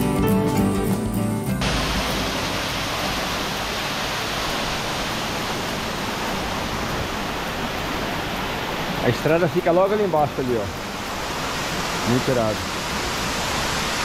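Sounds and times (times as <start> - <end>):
water rushing: 1.6 - 14.0.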